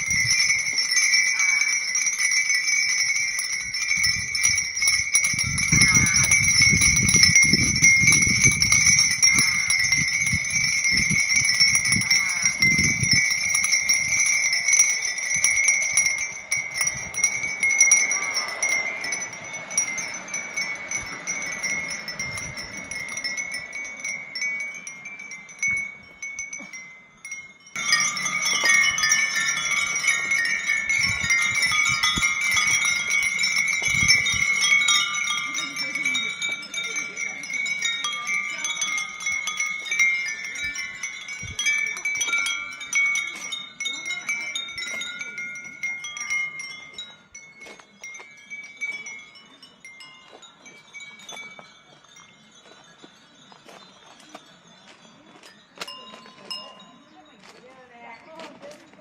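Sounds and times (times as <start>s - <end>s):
wind bells tinkling: 0.0s - 59.0s.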